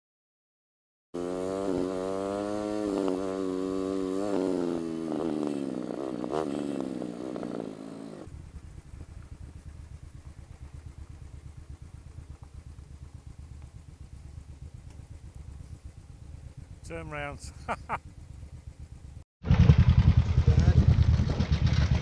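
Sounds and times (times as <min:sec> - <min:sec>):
motorcycle engine revving: 0:01.2 - 0:22.0.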